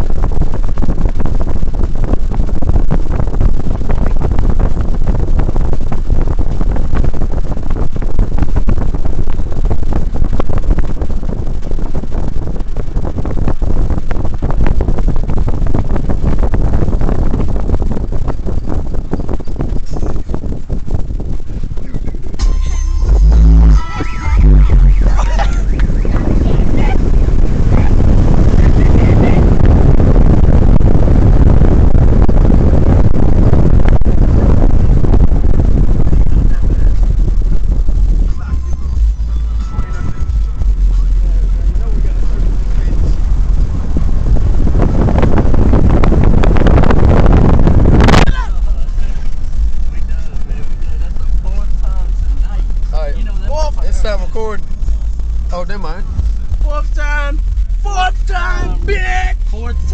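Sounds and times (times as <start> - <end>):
distorted subwoofer bass: 0.0 - 59.9
wind buffeting: 0.0 - 59.9.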